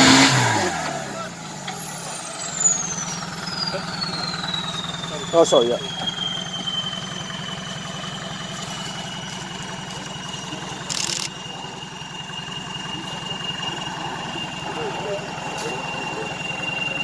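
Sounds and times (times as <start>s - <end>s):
engine idling: 0.0s - 17.0s
thin high whine: 1.1s - 17.0s.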